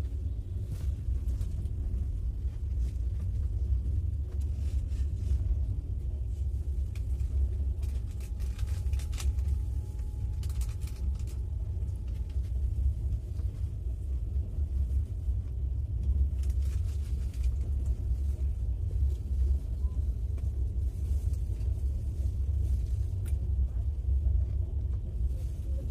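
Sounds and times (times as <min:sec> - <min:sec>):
faint rattles and clicks: 0:00.0 - 0:25.9
passenger train rumbling: 0:00.0 - 0:25.9.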